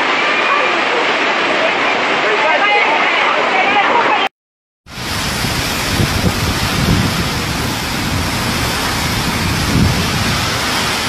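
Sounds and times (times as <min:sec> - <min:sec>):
driving rain: 0:00.0 - 0:04.3, 0:04.9 - 0:11.0
hurricane wind: 0:00.0 - 0:04.3, 0:04.9 - 0:11.0.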